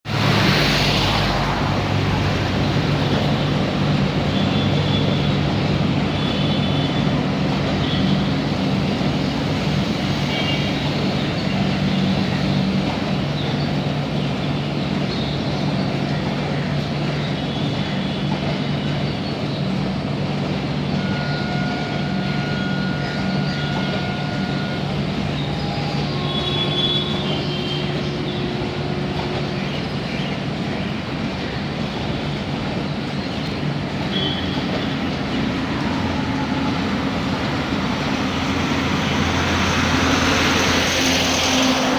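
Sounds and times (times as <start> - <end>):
train rumbling: 0.0 - 41.9.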